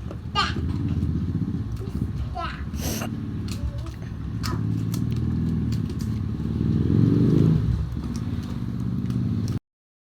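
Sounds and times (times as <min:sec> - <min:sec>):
engine running: 0:00.0 - 0:09.6.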